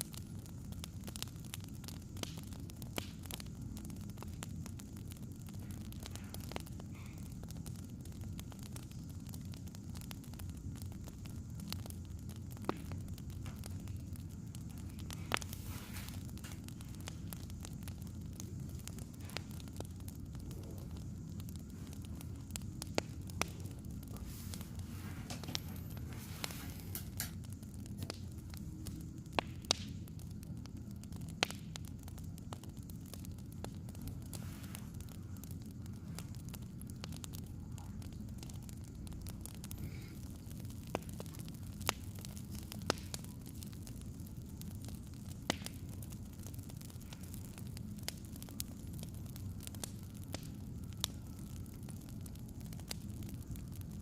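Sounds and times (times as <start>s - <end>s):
firewood crackling: 0.0s - 54.0s.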